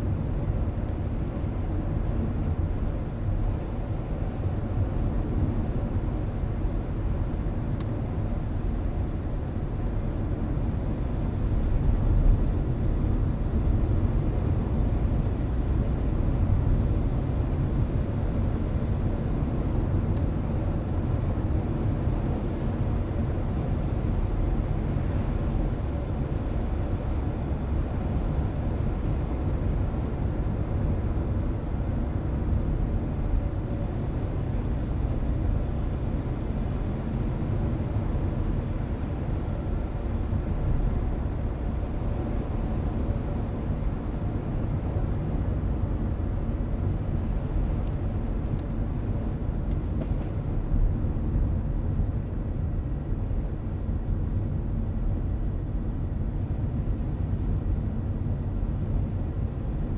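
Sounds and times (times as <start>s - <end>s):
road and engine rumble in car: 0.0s - 59.9s.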